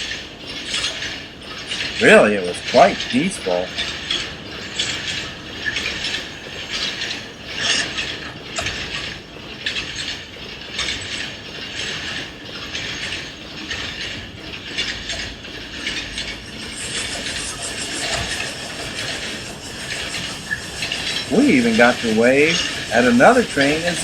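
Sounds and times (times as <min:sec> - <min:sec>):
train car rattling: 0:00.0 - 0:24.0
train wheels rumbling on track: 0:00.0 - 0:24.0.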